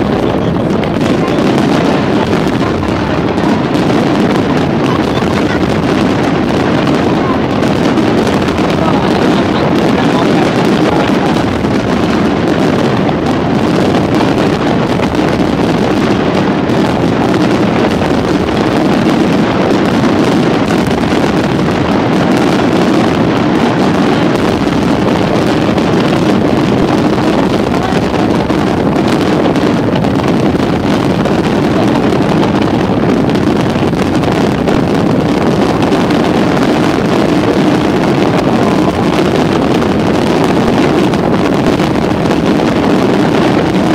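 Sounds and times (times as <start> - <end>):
fireworks barrage rumble: 0.0 - 43.9.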